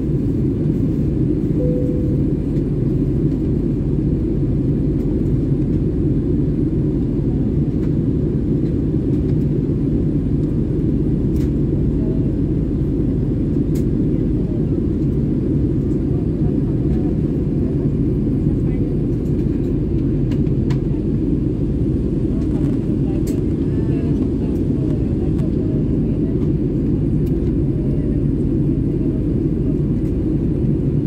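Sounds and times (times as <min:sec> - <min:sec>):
jet airliner cabin drone: 0:00.0 - 0:31.0.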